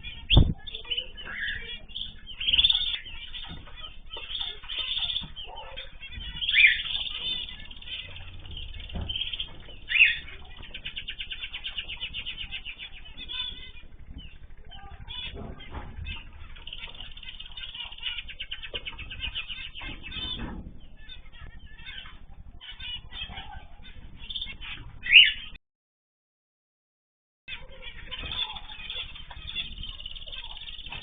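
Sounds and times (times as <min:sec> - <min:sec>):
bird trills: 0:00.0 - 0:25.6, 0:27.5 - 0:31.0
small birds chirping: 0:00.0 - 0:25.6, 0:27.5 - 0:31.0.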